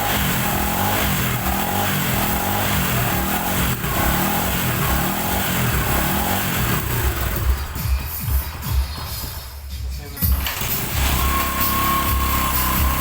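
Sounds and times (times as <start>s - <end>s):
motorcycle engine revving: 0.0s - 9.4s, 10.2s - 13.0s.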